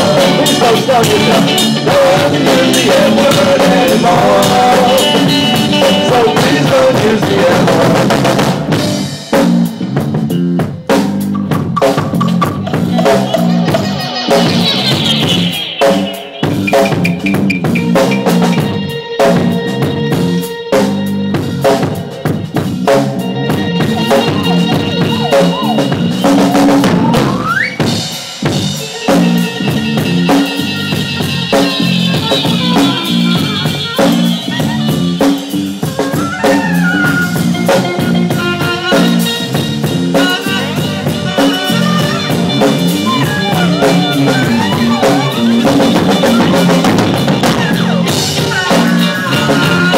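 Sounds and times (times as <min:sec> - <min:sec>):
bass drum and snare: 0:00.0 - 0:49.9
live band playing instrumental: 0:00.0 - 0:49.9.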